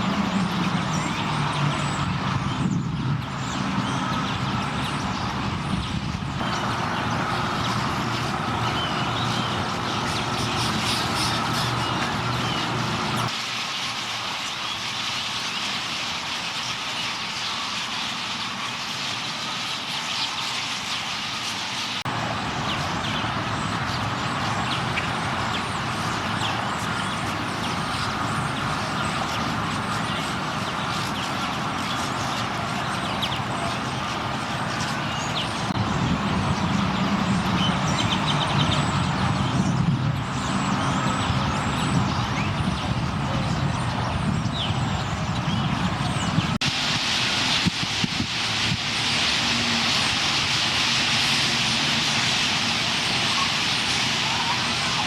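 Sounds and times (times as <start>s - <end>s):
road traffic rumble: 0.0s - 13.4s, 20.6s - 55.0s
flock of birds chattering: 0.0s - 55.0s.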